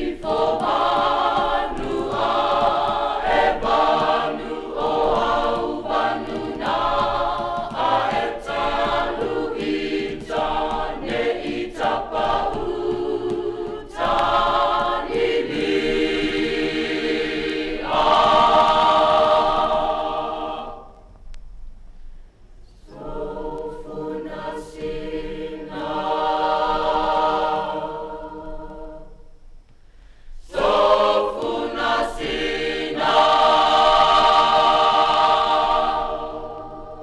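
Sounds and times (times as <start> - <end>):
choir singing: 0.0 - 21.0, 22.8 - 29.4, 30.4 - 37.0.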